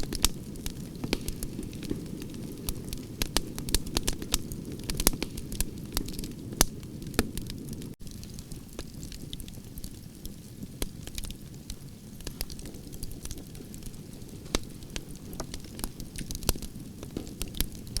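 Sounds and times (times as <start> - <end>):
fire popping and snapping: 0.0 - 18.0
wood fire crackling: 0.0 - 18.0.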